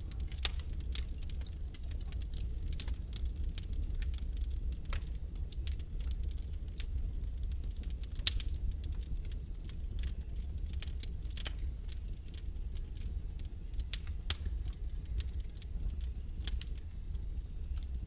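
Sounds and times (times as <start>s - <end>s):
logs crackling and popping: 0.0s - 18.0s
low fire rumble: 0.0s - 18.0s.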